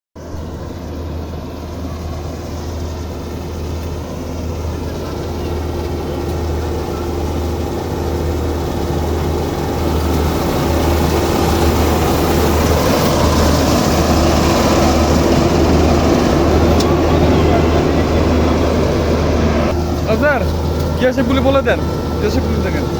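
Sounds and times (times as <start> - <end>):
combine harvester engine drone: 0.2 - 22.9
machine hum: 0.2 - 22.9.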